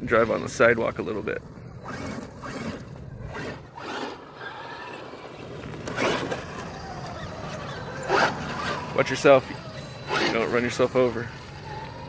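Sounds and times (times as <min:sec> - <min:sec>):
tyres scrabbling over dirt: 0:00.1 - 0:12.0
rc truck motor whining: 0:00.2 - 0:12.0.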